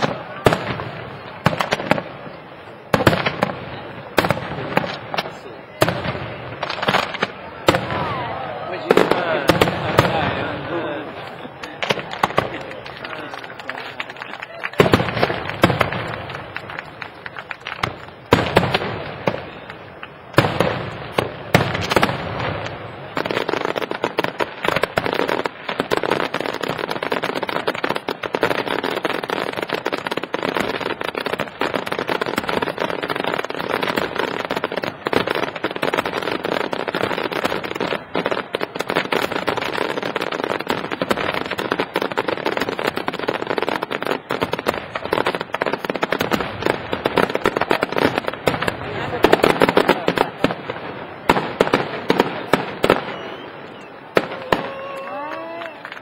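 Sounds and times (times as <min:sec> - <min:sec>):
rapid firework bangs and crackling: 0:00.0 - 0:56.0.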